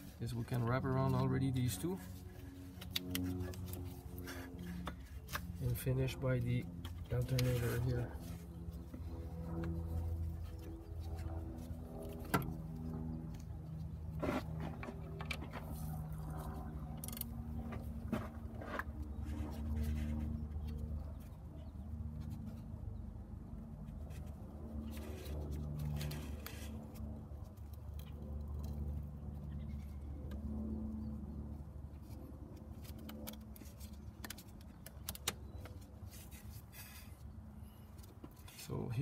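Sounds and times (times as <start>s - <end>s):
low wavering hum: 0.0s - 39.0s.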